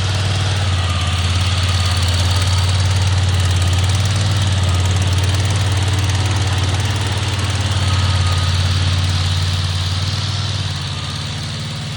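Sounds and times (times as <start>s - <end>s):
mower engine running: 0.0s - 11.9s.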